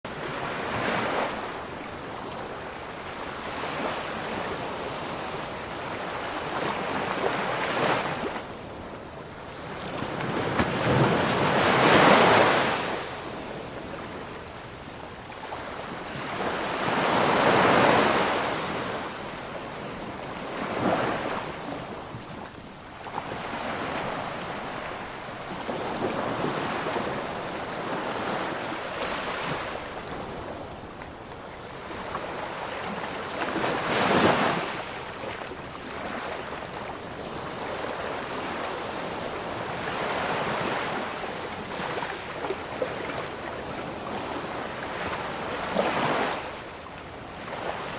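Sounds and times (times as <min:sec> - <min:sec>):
ocean waves breaking: 0:00.1 - 0:46.6.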